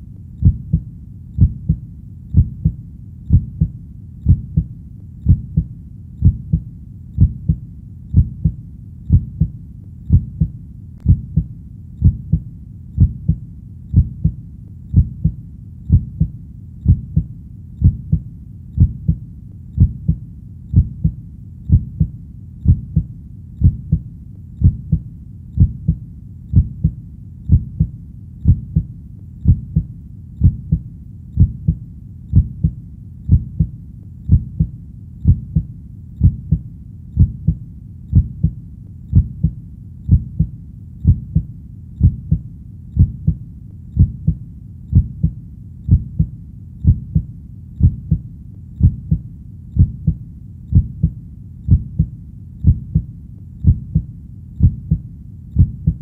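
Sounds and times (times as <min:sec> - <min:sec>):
heartbeat thumping: 0:00.0 - 0:56.0.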